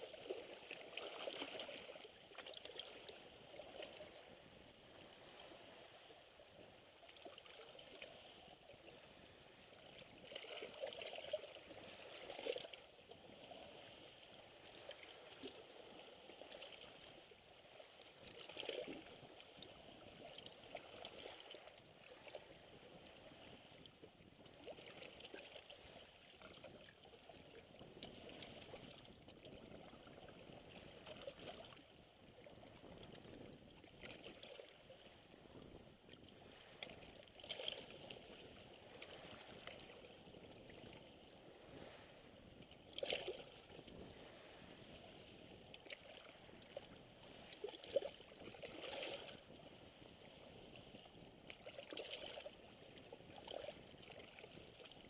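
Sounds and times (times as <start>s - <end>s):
small waves lapping on rocks: 0.0s - 55.0s
water trickling and splashing: 0.0s - 55.0s.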